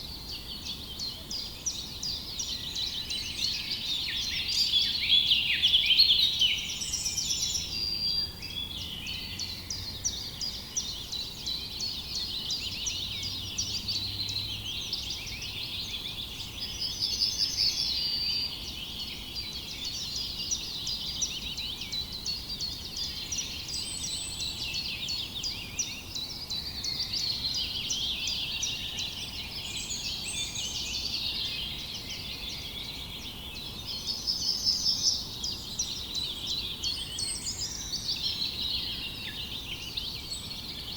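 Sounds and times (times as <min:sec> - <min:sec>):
chorus of small birds chirping: 0:00.0 - 0:40.9.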